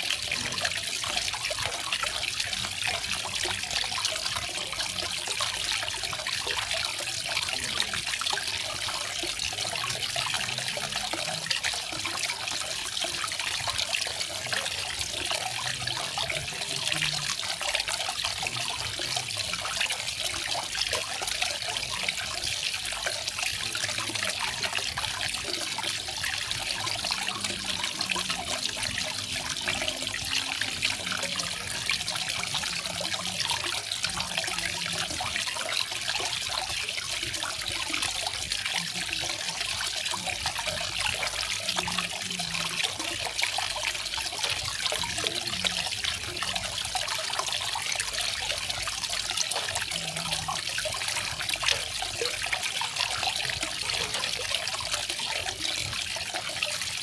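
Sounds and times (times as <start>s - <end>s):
faint water trickle: 0.0s - 57.0s.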